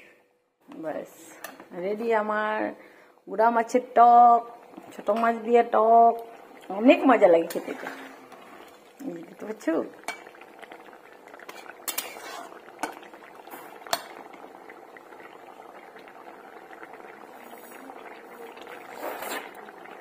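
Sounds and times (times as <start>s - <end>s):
curry simmering and bubbling: 3.9s - 20.0s.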